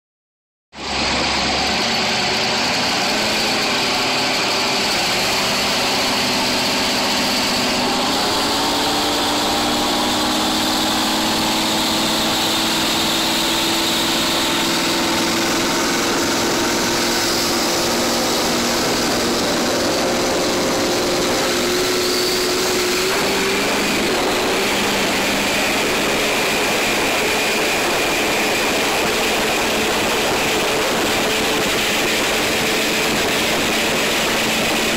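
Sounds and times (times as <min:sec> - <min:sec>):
powerboat engine running hard: 0:00.8 - 0:34.9
rush of wind and water: 0:00.8 - 0:34.9.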